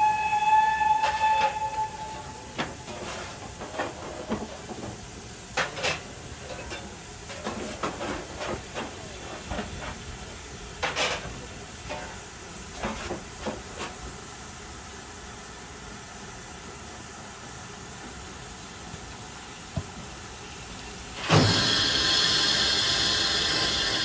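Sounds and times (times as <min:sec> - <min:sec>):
steam hissing: 0:00.0 - 0:24.0.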